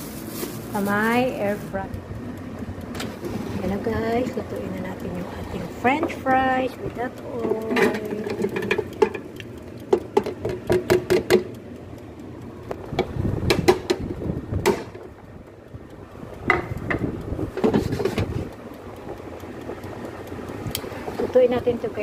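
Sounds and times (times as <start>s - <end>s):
sharp clicks and knocks: 0.9s - 22.0s.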